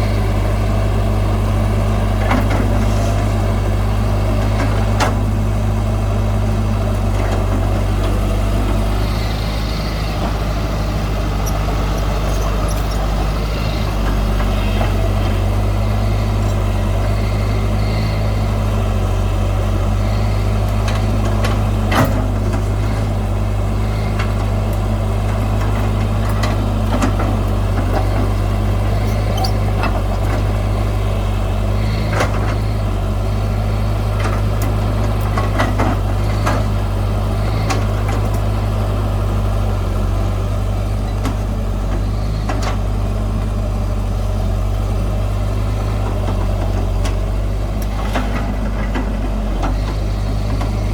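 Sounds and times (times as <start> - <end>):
heavy diesel machinery running: 0.0 - 50.9.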